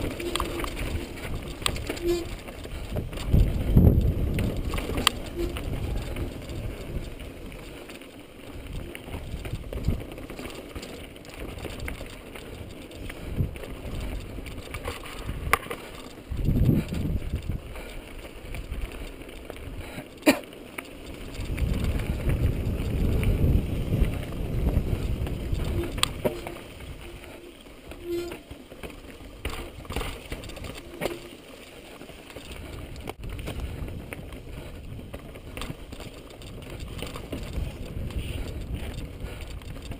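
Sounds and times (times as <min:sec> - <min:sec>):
wheels striking rock: 0:00.0 - 0:17.7, 0:18.3 - 0:39.9
bike tyres rumbling and rattling: 0:00.0 - 0:39.9.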